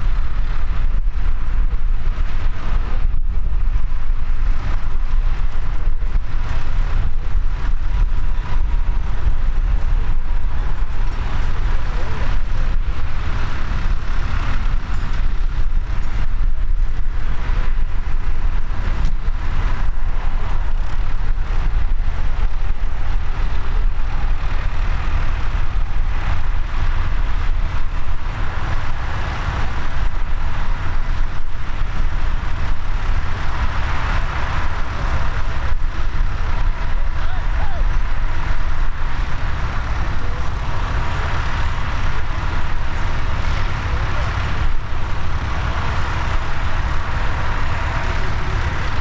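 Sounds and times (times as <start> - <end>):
tractor engine idling: 0.0 - 49.0
wind rumbling on microphone: 0.0 - 49.0.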